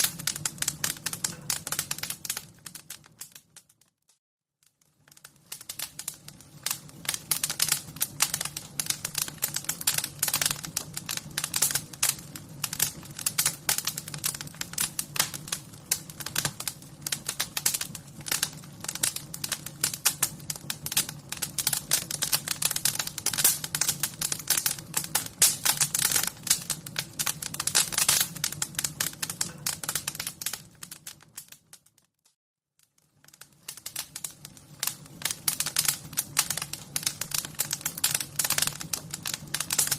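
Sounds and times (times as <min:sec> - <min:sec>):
wood fire crackling: 0:00.0 - 0:32.2, 0:32.8 - 0:39.9.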